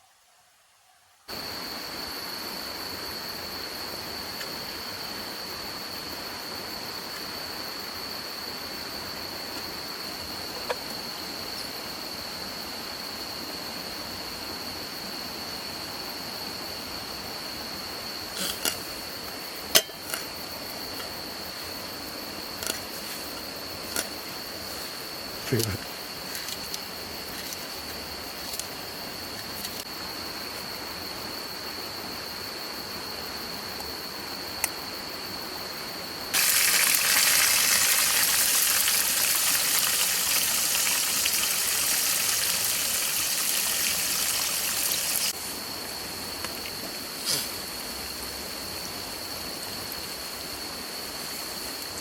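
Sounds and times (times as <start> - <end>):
outdoor hiss: 0.0 - 52.0
insects trilling: 1.3 - 52.0.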